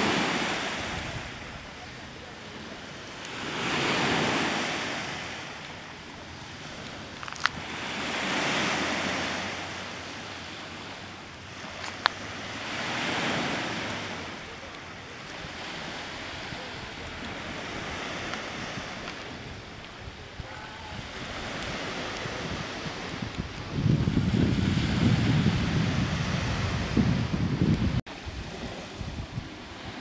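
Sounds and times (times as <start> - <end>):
small waves washing onto pebbles: 0.0 - 26.7.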